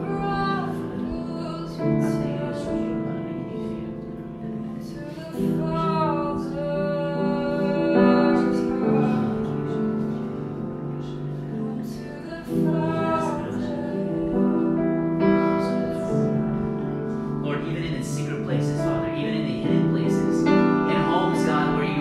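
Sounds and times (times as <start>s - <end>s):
sustained piano chords: 0.0s - 22.0s
woman singing: 0.0s - 22.0s.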